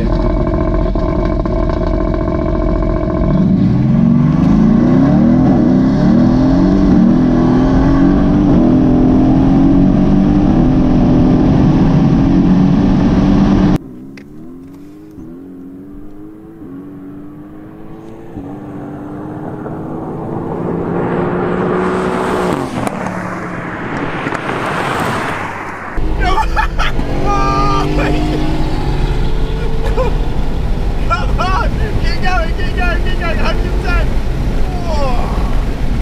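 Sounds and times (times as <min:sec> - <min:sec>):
car engine accelerating: 0:00.0 - 0:36.0
distant car accelerating: 0:00.0 - 0:36.0.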